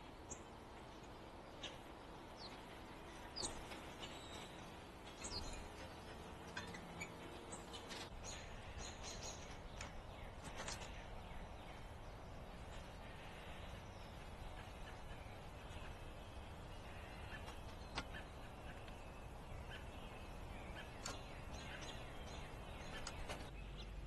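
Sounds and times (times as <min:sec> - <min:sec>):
faint background noise: 0:00.0 - 0:24.0
songbirds chirping: 0:00.0 - 0:24.0.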